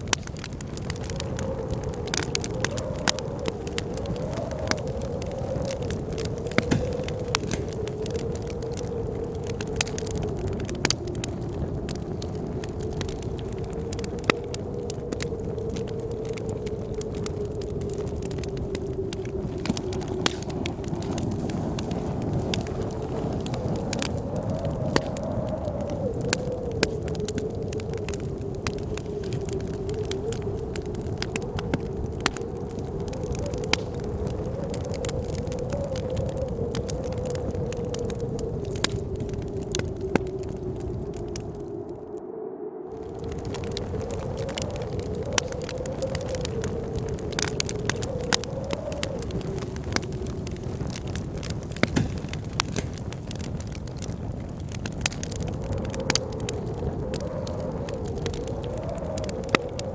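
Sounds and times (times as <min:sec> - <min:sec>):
wood fire crackling and popping: 0:00.0 - 0:42.2, 0:42.9 - 0:59.9
blizzard wind whistling: 0:00.0 - 0:59.9.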